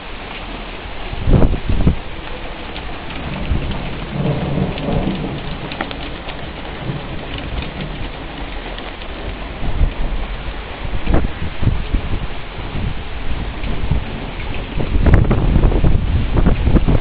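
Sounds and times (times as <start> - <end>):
rain falling steadily: 0.0 - 17.0
low rumble of thunder: 1.1 - 17.0.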